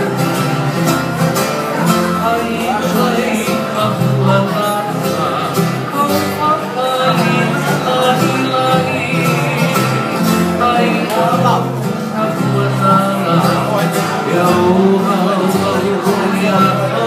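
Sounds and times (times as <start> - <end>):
plucked acoustic guitar music: 0.0 - 17.0.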